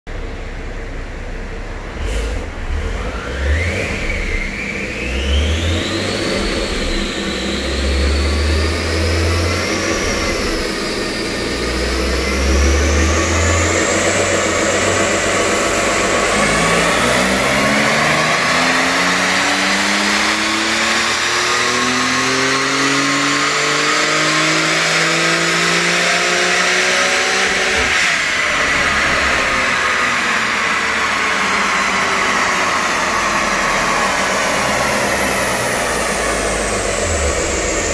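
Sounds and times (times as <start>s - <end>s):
high turbo whine: 0.1s - 37.9s
car engine revving at full throttle: 1.7s - 37.9s.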